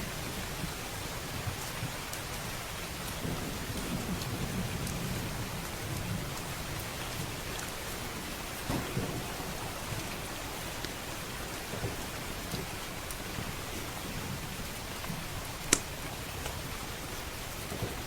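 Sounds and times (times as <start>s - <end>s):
steady rain: 0.0s - 18.0s
wood fire crackling: 0.5s - 18.0s
low thunder rumbling: 2.8s - 18.0s.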